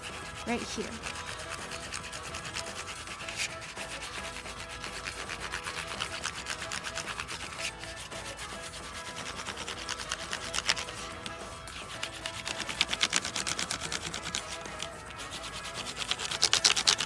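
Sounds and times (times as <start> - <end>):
crayon scribbling on paper: 0.0 - 17.0.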